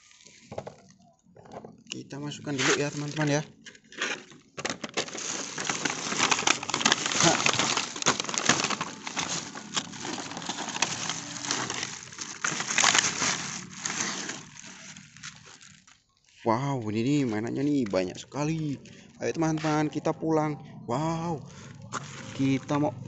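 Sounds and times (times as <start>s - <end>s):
plastic bag rustling and crinkling: 0.0s - 1.0s, 2.2s - 20.0s, 21.4s - 23.0s.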